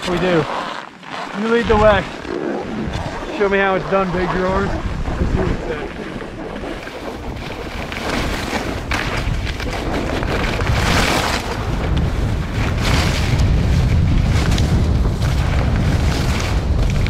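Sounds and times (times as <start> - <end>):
wind buffeting microphone: 1.4 - 17.0.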